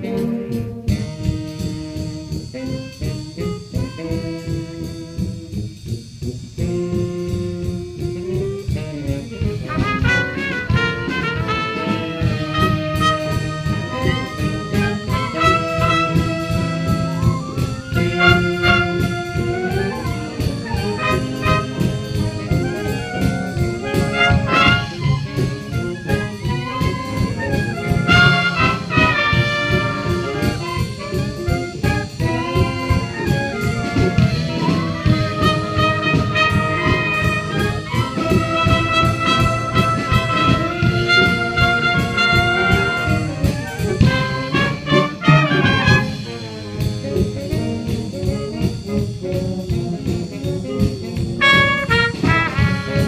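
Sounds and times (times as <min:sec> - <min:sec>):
rhythmic bass: 0:00.0 - 0:53.0
trumpets and clarinets: 0:00.0 - 0:53.0
wind band playing big-band tune: 0:00.0 - 0:53.0.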